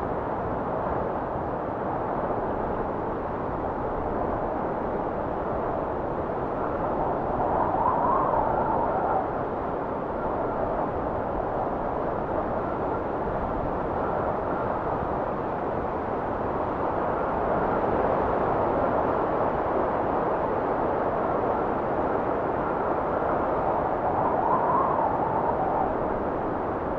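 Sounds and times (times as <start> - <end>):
wind blowing with faint whistle: 0.0 - 26.9.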